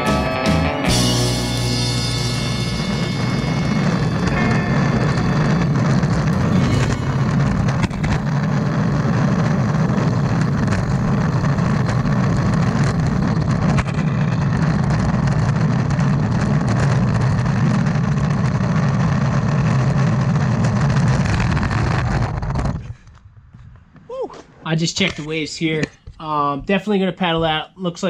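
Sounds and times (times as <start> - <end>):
longboard wheels rolling on asphalt: 0.9 - 24.0.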